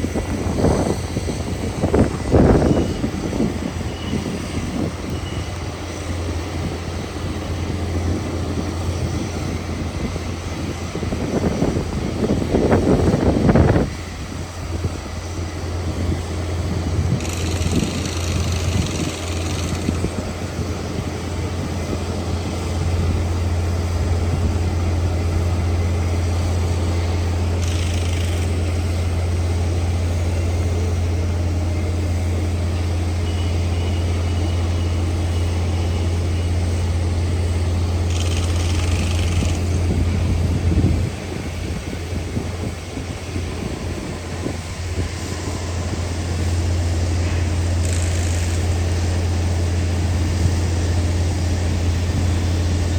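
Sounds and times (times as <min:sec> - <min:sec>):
electric train humming: 0:00.0 - 0:52.9.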